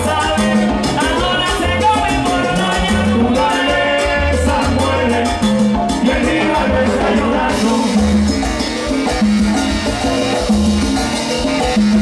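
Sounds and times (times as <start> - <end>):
electric bass: 0.0 - 12.0
percussion: 0.0 - 12.0
piano: 0.0 - 12.0.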